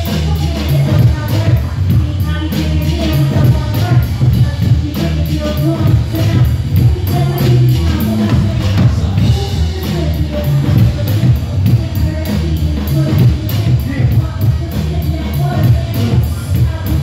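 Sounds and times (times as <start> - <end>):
bass line: 0.0 - 17.0
live band playing jazz-rap: 0.0 - 17.0.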